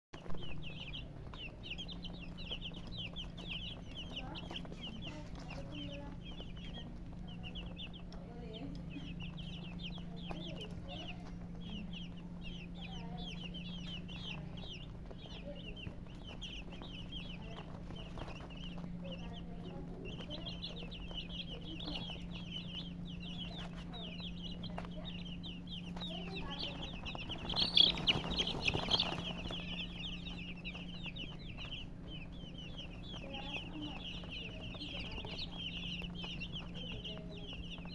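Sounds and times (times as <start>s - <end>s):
chicks peeping: 0.1s - 37.9s
low hum: 0.2s - 37.9s.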